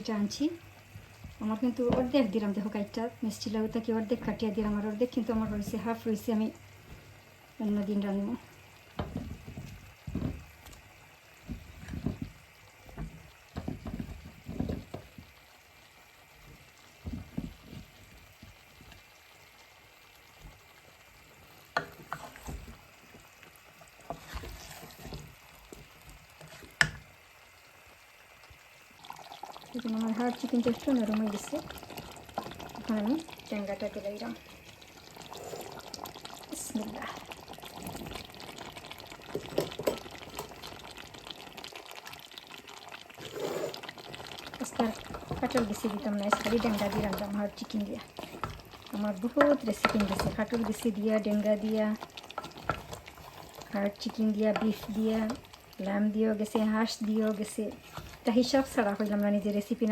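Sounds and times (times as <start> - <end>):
stirring and handling noises: 0.0 - 27.2, 29.0 - 59.9
curry sloshing and simmering: 0.2 - 59.9.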